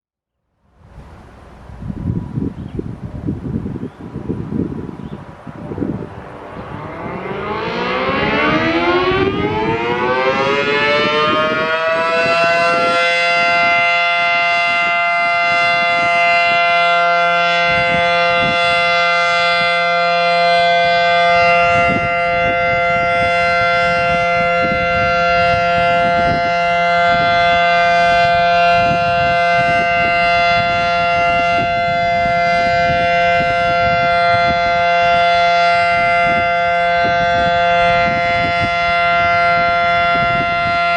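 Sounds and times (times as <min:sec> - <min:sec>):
two-tone warning siren: 0:00.5 - 0:40.9.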